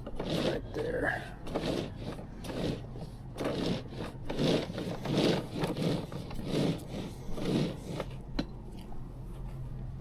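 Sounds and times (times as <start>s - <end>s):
tool scraping rough surface: 0.0s - 8.2s.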